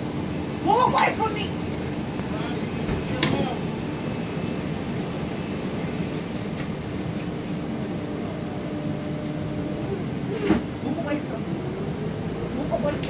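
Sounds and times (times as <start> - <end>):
bus engine and ventilation hum: 0.0 - 13.0.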